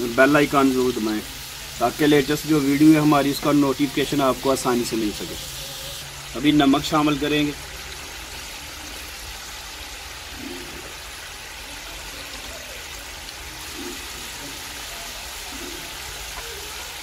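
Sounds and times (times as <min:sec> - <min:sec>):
gooseberries sizzling in oil: 0:00.0 - 0:17.0.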